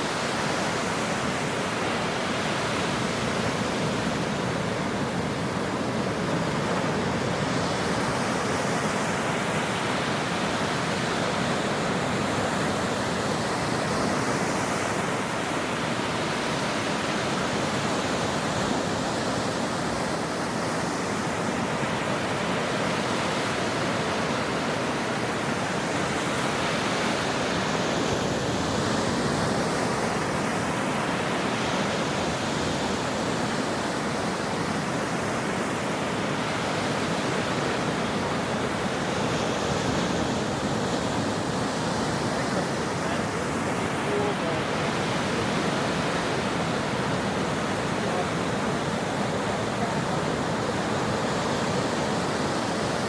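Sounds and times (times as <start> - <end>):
waves breaking on a shore: 0.0 - 53.0.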